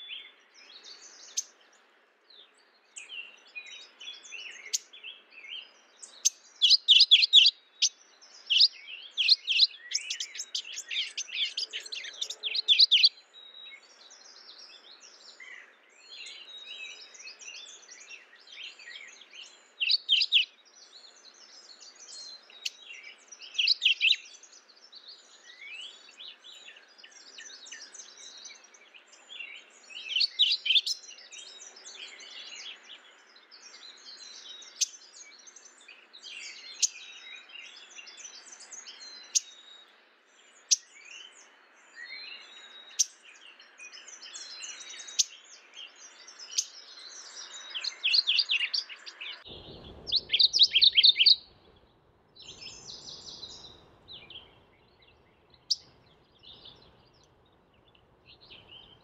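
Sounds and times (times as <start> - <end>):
small birds chirping: 0.0 - 59.0
warbler singing rolling notes: 0.0 - 59.0.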